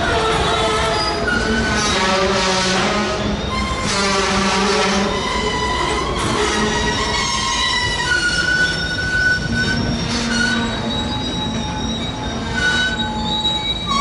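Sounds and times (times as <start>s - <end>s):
train wheels squealing: 0.0s - 4.2s, 5.0s - 14.0s
rumble of train cars: 0.0s - 14.0s.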